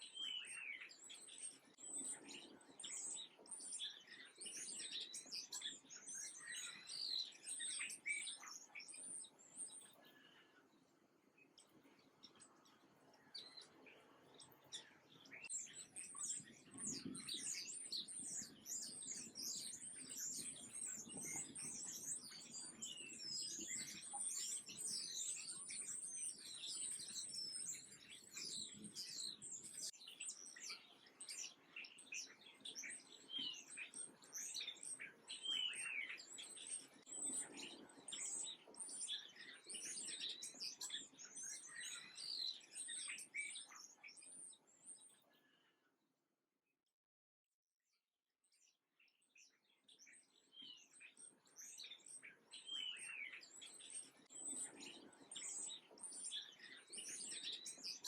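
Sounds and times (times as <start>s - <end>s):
small birds chirping: 0.0s - 46.0s, 48.4s - 58.0s.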